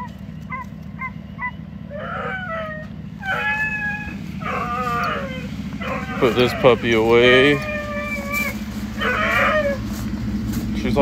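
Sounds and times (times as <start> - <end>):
puppy yelping and whining: 0.0 - 9.9
steady low hum: 0.0 - 11.0.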